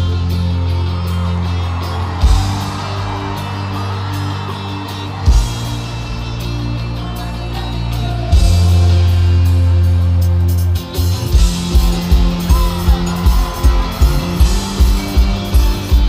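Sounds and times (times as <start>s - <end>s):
drums steady beat: 0.0s - 16.0s
electric guitar: 0.0s - 16.0s
live rock band chord: 0.0s - 16.0s.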